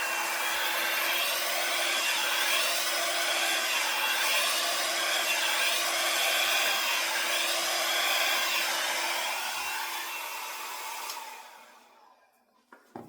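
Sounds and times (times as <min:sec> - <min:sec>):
hair dryer blowing: 0:00.0 - 0:12.3.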